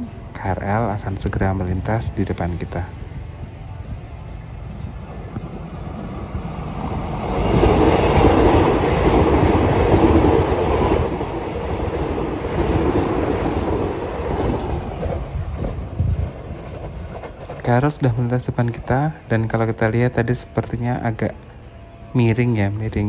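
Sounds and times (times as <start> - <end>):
train wheels on rails: 0.0 - 22.1
electric train passing close: 0.0 - 23.0.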